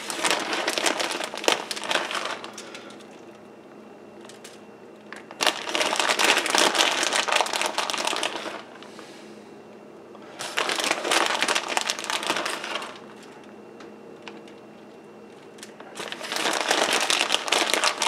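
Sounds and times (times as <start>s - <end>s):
plastic bag crinkling: 0.0s - 3.4s, 4.2s - 9.0s, 10.2s - 13.5s, 14.2s - 18.0s.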